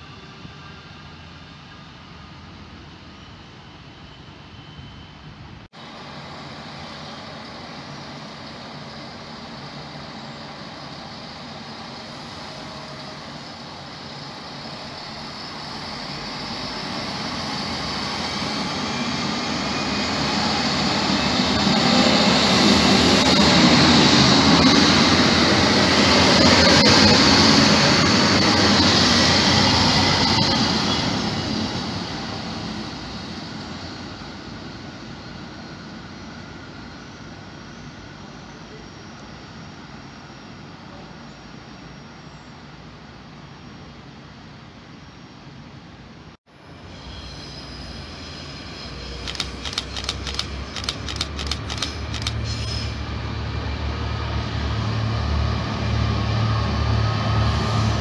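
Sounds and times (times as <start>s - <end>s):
diesel train passing: 0.0s - 58.0s.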